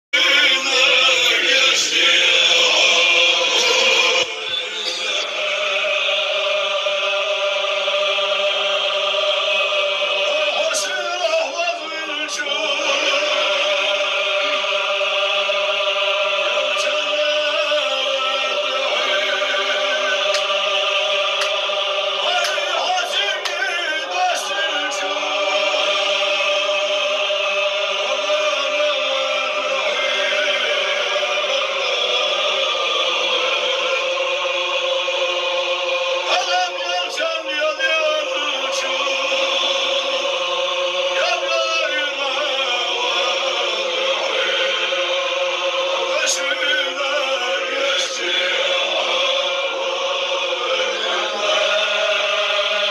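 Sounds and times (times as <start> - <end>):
men chanting in unison: 0.2 - 52.9.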